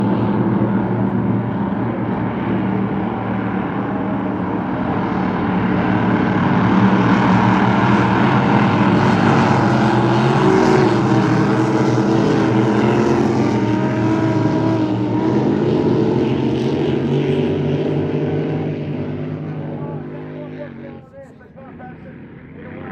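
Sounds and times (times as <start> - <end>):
racing boat engines running hard: 0.0 - 22.9.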